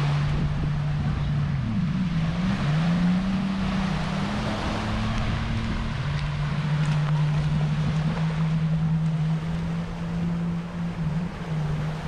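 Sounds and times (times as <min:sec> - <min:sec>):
engine drone: 0:00.0 - 0:12.0
small waves washing ashore: 0:00.0 - 0:12.0
wind: 0:00.0 - 0:12.0.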